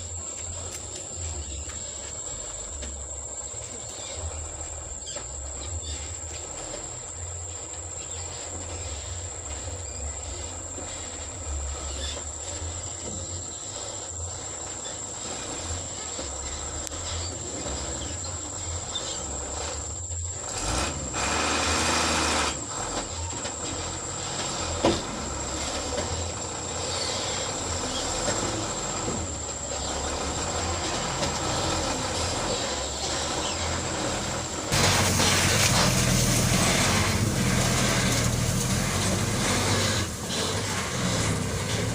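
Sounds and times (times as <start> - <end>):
truck engine rumbling: 0.0 - 41.9.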